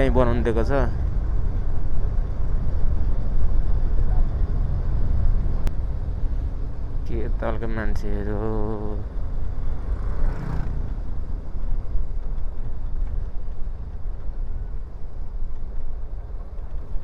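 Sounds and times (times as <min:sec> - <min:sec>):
motorcycle engine rumbling: 0:00.0 - 0:17.0
wind buffeting microphone: 0:00.0 - 0:17.0.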